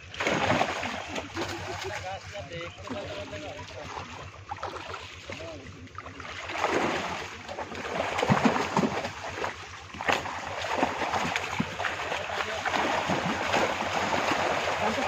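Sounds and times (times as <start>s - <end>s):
low steady thrum: 0.0s - 15.0s
water splashing and sloshing: 0.0s - 15.0s.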